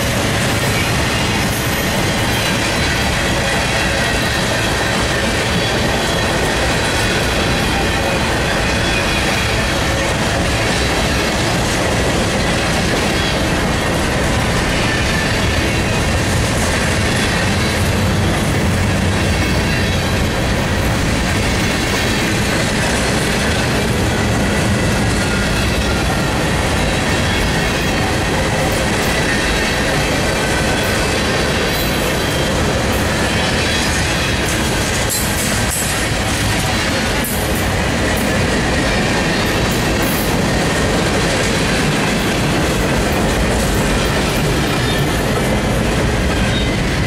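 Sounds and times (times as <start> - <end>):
steel wheels rumbling on rail: 0.0 - 47.0.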